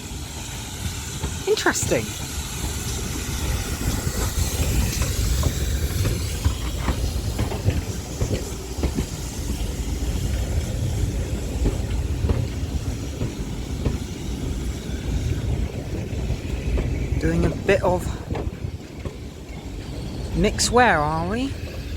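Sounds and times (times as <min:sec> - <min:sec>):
steam hissing: 0:00.0 - 0:21.9
steam train rumbling: 0:00.0 - 0:21.9
wheels knocking over rail joints: 0:02.6 - 0:20.8.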